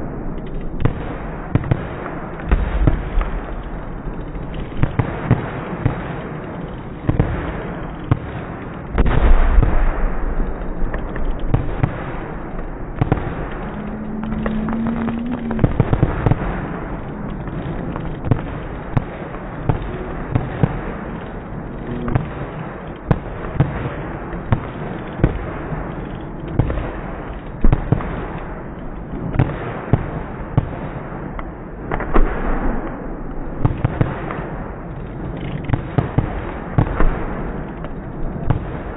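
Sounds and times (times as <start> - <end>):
continuous rumble: 0.0 - 38.9
fireworks bangs and crackles: 0.0 - 38.9.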